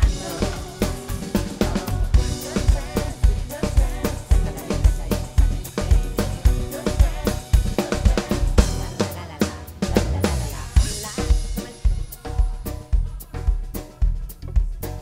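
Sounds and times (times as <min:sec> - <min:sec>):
bass guitar: 0:00.0 - 0:15.0
drum kit beat: 0:00.0 - 0:15.0
keyboards: 0:00.0 - 0:15.0.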